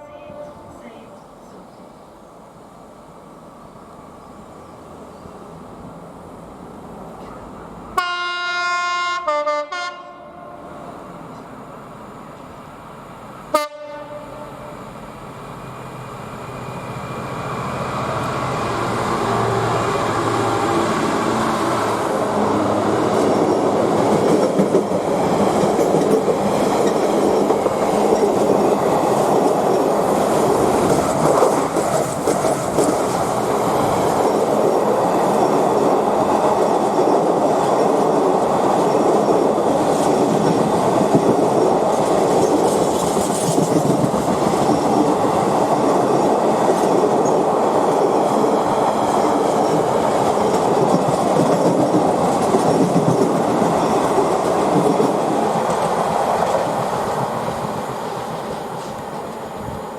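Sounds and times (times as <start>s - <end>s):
train wheels on rails: 10.7s - 59.9s.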